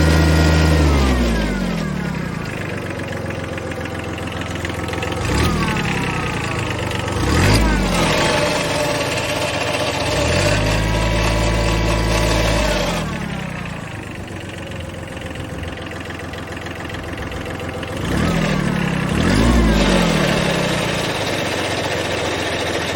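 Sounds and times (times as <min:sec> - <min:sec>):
tractor diesel engine revving: 0:00.0 - 0:22.9.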